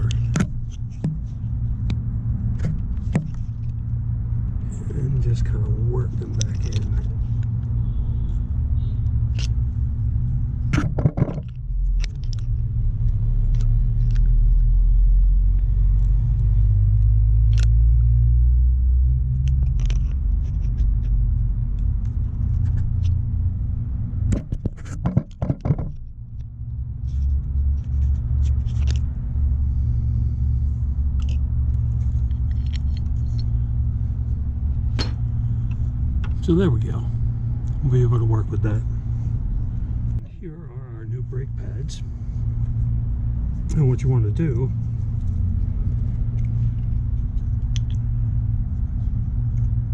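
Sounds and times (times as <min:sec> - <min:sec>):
steady low rumble: 0:00.0 - 0:49.9.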